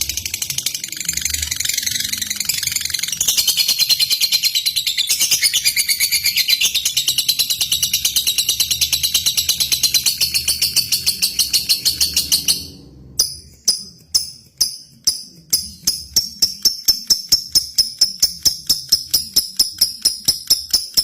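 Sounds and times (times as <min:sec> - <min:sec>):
lovebird chattering trill: 0:00.0 - 0:21.0
sharp high bird chirps: 0:00.0 - 0:21.0.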